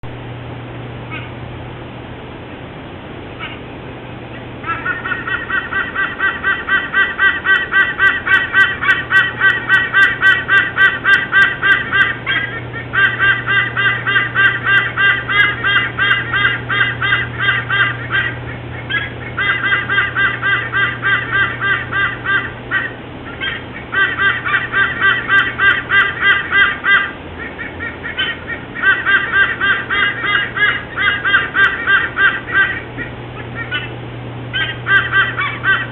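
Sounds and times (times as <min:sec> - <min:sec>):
low steady hum: 0:00.0 - 0:35.9
eagle honking calls: 0:01.0 - 0:01.4, 0:03.3 - 0:35.9.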